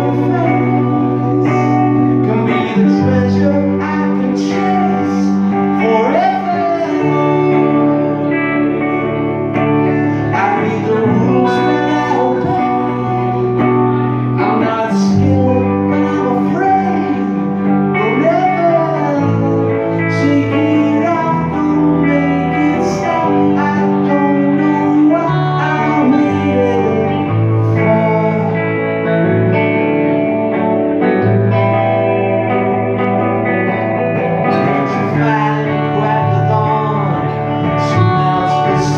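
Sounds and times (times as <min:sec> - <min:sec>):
man singing: 0:00.0 - 0:31.5, 0:32.5 - 0:38.9
bass holding low notes: 0:00.0 - 0:38.9
electric guitar: 0:00.0 - 0:38.9.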